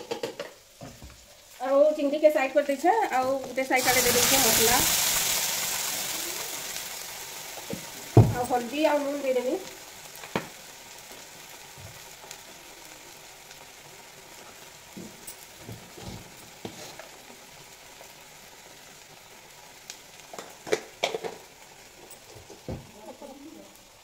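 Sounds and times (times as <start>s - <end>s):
food sizzling in oil: 0.1s - 24.0s.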